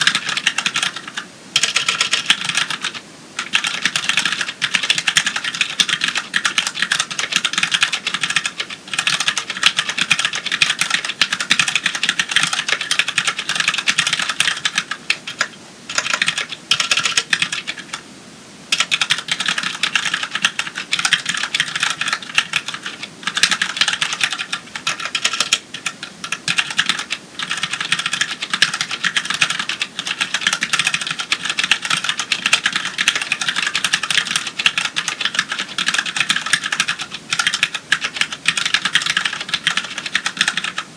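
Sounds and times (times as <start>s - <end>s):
mechanical keyboard typing: 0.0s - 18.0s, 18.7s - 40.9s.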